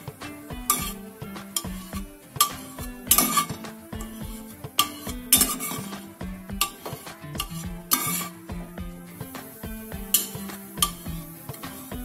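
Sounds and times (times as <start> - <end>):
spatula scraping a metal pan: 0.0 - 8.5, 9.2 - 12.0
background music: 0.0 - 12.0.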